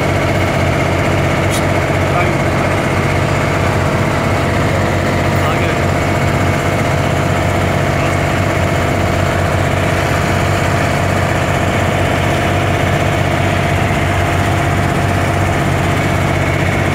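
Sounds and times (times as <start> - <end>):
boat engine droning: 0.0 - 16.9.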